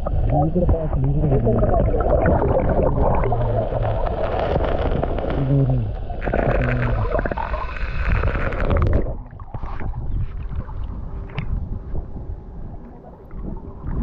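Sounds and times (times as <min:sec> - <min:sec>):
underwater river rumbling: 0:00.0 - 0:14.0.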